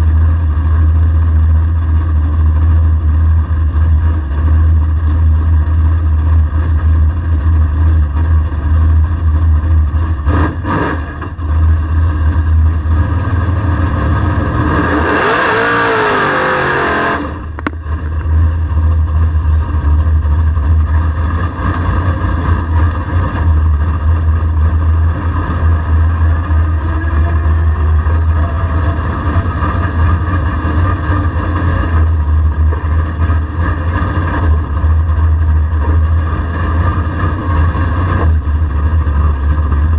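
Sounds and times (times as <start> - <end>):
car engine idling: 0.0 - 39.9
engine roaring on throttle: 0.0 - 39.9.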